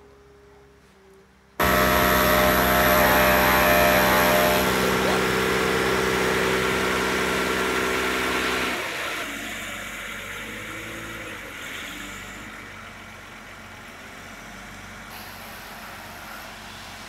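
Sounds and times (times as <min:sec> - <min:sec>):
crane engine running: 0:01.6 - 0:17.0.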